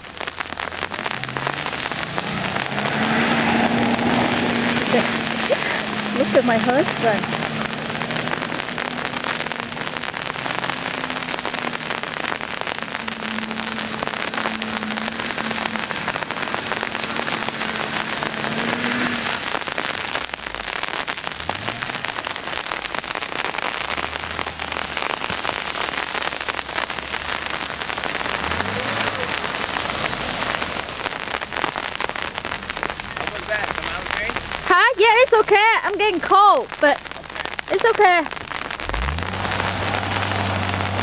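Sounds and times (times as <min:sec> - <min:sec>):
car engine humming and revving: 0:00.0 - 0:41.0
freezing rain and sleet hissing: 0:00.0 - 0:41.0.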